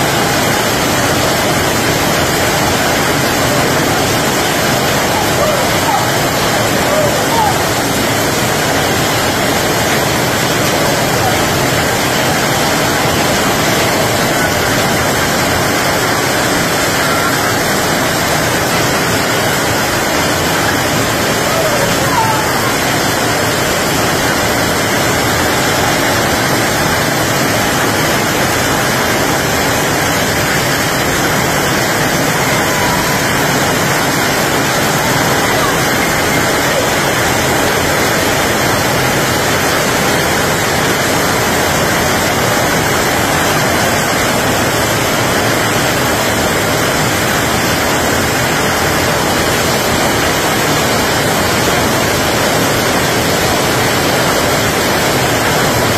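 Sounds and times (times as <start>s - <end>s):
heavy rain on a street: 0.0s - 55.9s.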